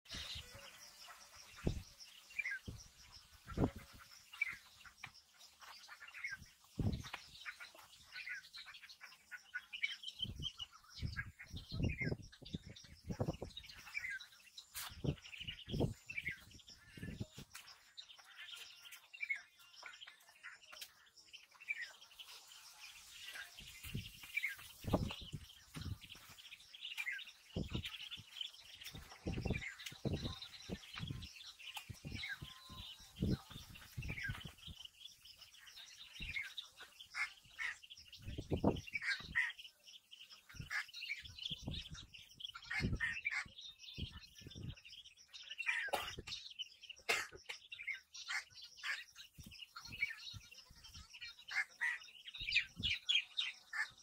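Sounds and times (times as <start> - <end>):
ducklings peeping: 0.1 - 54.0.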